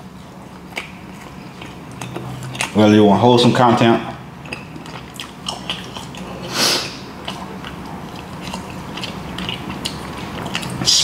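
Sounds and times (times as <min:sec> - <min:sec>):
chewing with wet mouth clicks: 0:00.4 - 0:03.2, 0:04.1 - 0:11.0.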